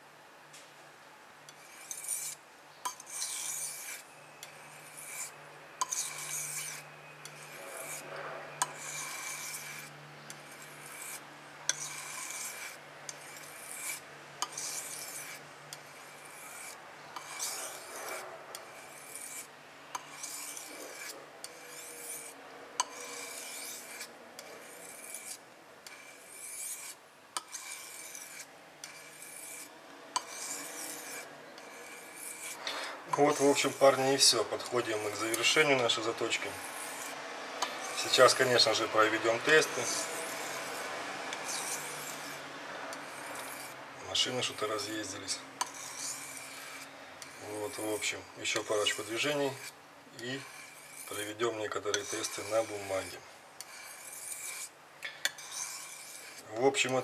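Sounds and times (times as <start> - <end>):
knife scraping on whetstone: 1.5 - 57.0.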